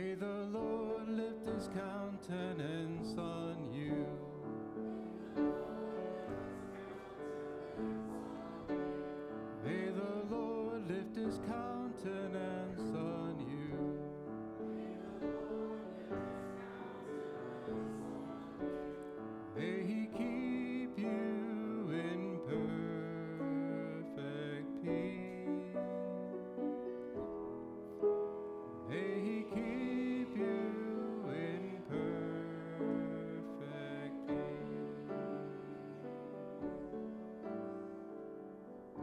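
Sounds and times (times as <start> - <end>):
person singing: 0.0 - 27.0, 28.8 - 37.7
piano playing: 0.0 - 39.0.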